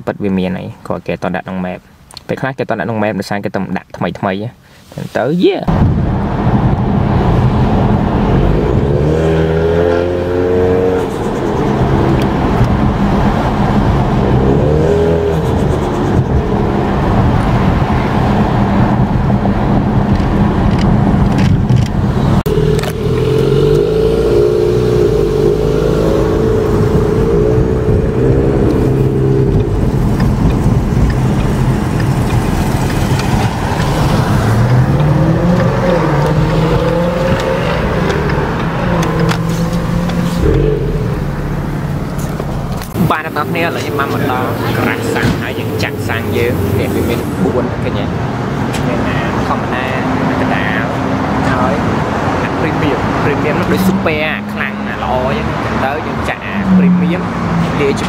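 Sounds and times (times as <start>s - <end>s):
car engine revving: 5.7s - 58.0s.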